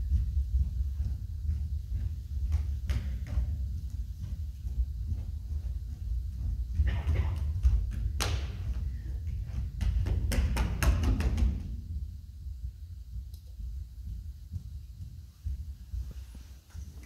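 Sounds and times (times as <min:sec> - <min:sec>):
low rumble: 0:00.0 - 0:10.5, 0:11.2 - 0:17.0
footsteps on wooden stage: 0:00.0 - 0:17.0.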